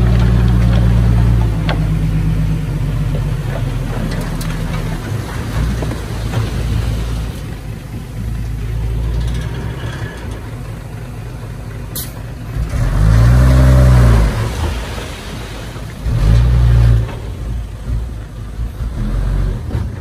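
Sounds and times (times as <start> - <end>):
heavy diesel engine revving: 0.0 - 20.0.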